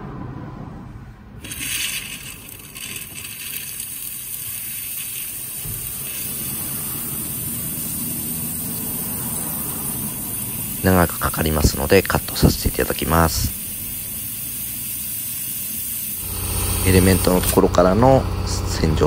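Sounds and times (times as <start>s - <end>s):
hissing spray: 1.4s - 18.6s.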